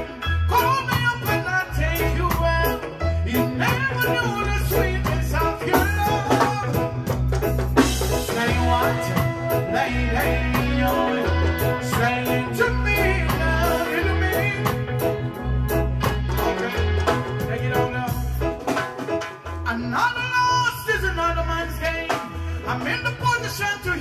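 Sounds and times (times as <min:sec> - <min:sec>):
man singing into a microphone: 0:00.0 - 0:07.3, 0:07.9 - 0:15.5, 0:16.2 - 0:18.7, 0:19.6 - 0:24.0
reggae backing music: 0:00.0 - 0:24.0.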